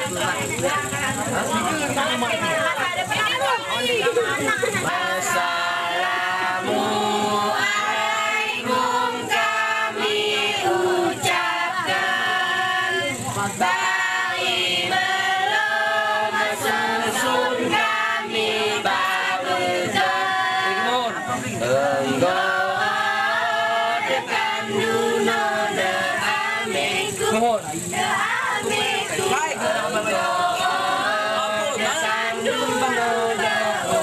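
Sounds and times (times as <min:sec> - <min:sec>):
group of voices chanting: 0:04.7 - 0:34.0.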